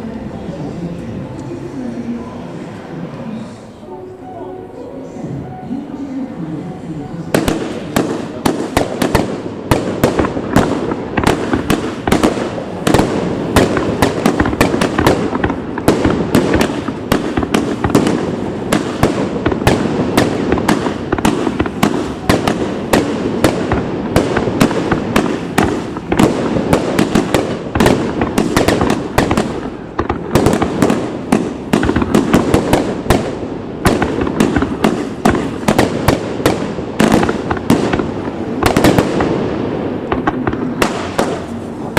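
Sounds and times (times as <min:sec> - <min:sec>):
fireworks bangs: 0:05.1 - 0:41.9.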